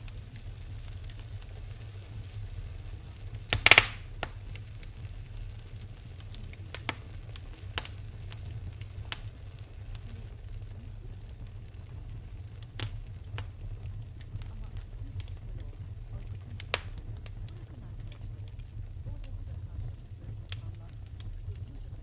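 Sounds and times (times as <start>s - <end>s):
low rumble of fire: 0.0s - 22.0s
wood fire crackling and popping: 0.0s - 22.0s.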